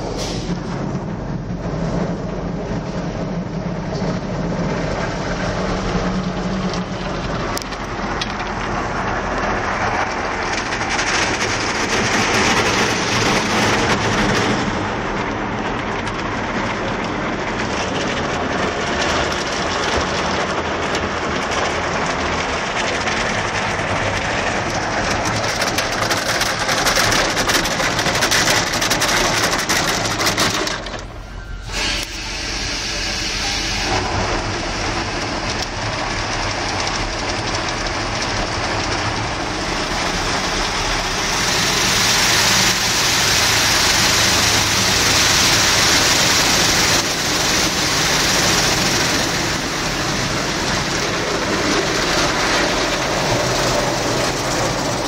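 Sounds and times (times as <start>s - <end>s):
car wash water spray: 0.0s - 55.0s.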